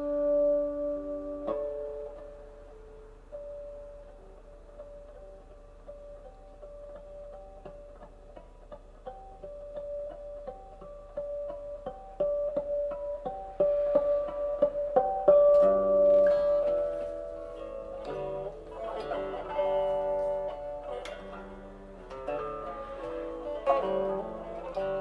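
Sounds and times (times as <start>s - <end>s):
guitar playing notes and chords: 0.0s - 25.0s.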